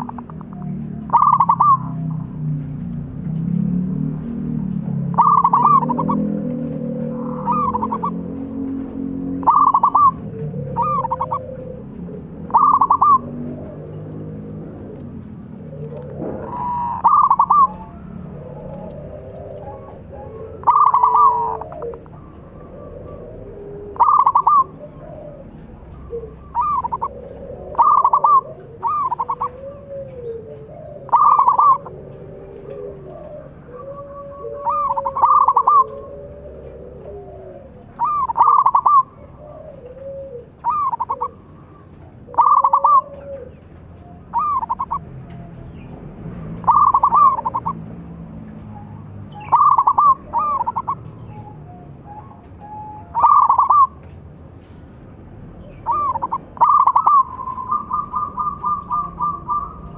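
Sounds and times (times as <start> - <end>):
dove cooing: 0.0 - 54.8, 55.6 - 59.9.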